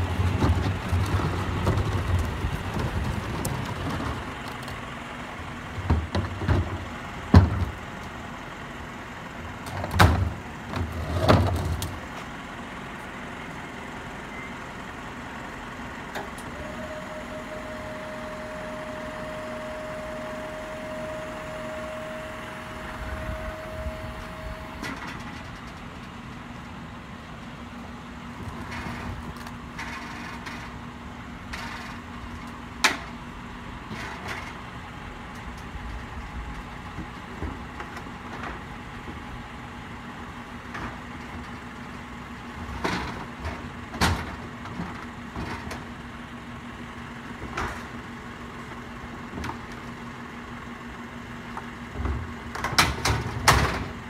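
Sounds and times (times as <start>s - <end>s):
garbage truck whine: 0.0s - 54.0s.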